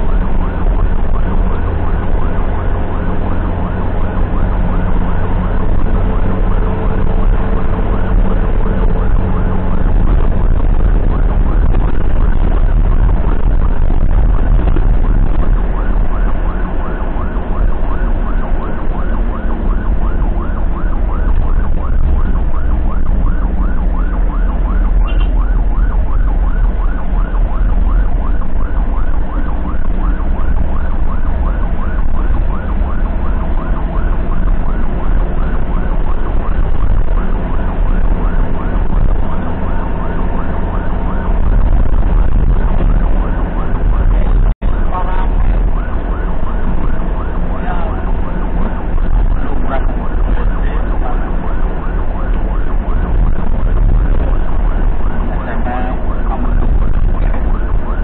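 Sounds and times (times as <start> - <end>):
ambulance siren yelping: 0.0 - 58.0
low rumble of moving vehicle: 0.0 - 58.0.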